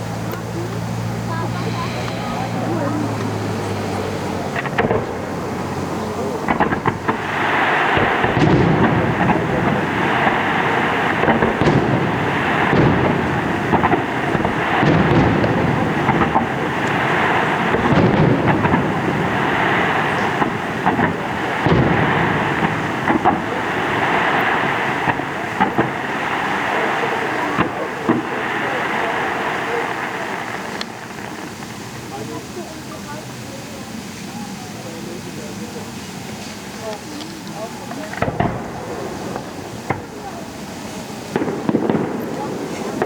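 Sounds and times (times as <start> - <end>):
fireworks booming: 0.0 - 43.0
fireworks crackling: 0.0 - 43.0.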